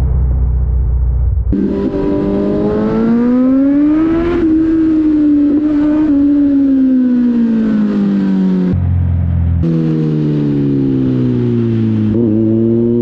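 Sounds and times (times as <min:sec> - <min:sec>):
motorcycle engine revving: 0:01.4 - 0:13.0.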